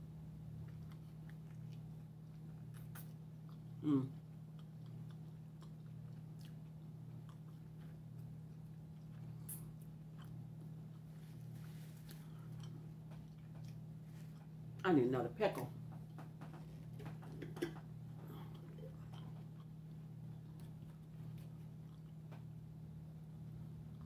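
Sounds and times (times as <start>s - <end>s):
steady low hum: 0.0s - 24.0s
person chewing: 0.4s - 14.8s, 16.0s - 22.6s.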